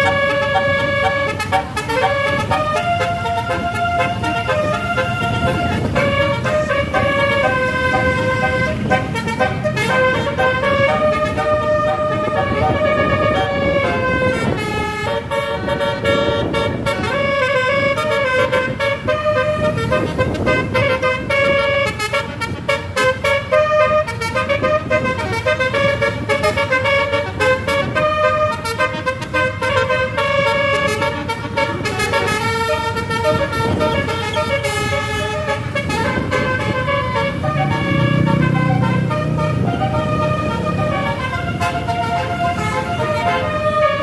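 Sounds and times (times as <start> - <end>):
low vehicle rumble: 0.0 - 44.0
multi-tone air horn tune: 0.0 - 44.0.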